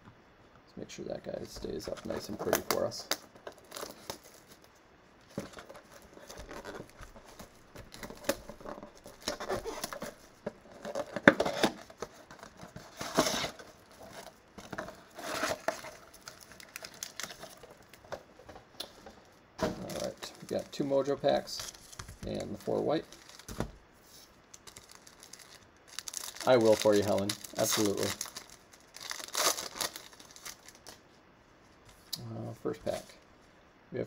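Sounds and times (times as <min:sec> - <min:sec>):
cardboard and wrapper crinkling: 0:01.4 - 0:31.1.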